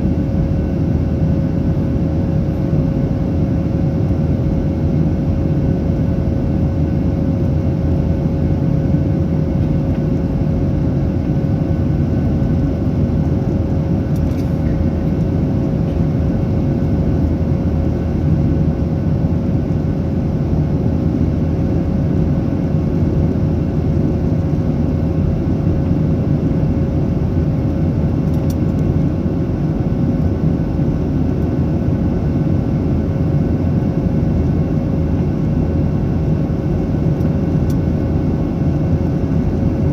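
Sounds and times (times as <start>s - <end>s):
airplane cabin engine and airflow noise: 0.0s - 39.9s.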